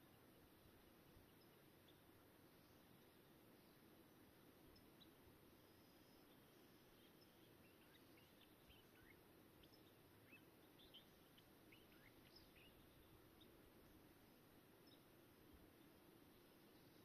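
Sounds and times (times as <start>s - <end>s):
faint birds chirping: 0.0s - 17.0s
steady low hiss: 0.0s - 17.0s.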